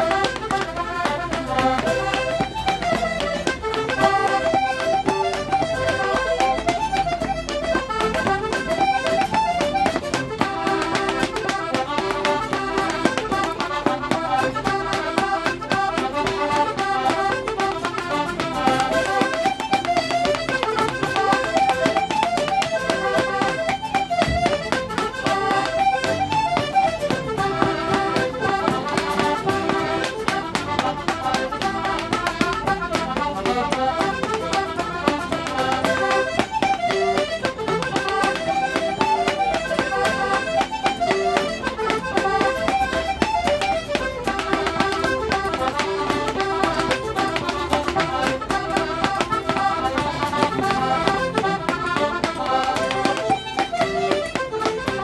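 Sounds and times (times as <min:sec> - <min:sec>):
accordion: 0:00.0 - 0:55.0
fiddles: 0:00.0 - 0:55.0.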